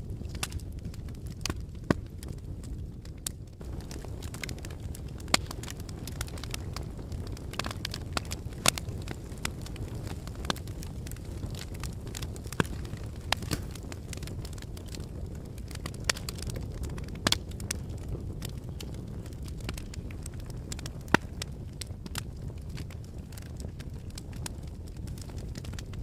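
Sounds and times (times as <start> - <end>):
volcanic low rumble: 0.0 - 26.0
sharp cracks and snaps: 0.2 - 2.4, 3.0 - 26.0.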